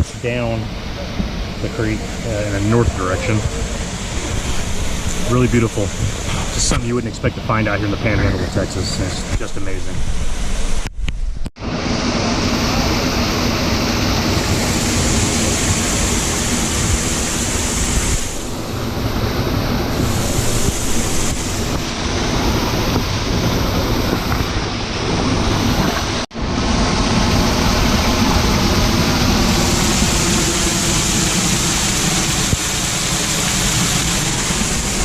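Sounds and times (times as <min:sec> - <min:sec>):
waterfall rushing: 0:00.0 - 0:09.8, 0:11.6 - 0:35.0.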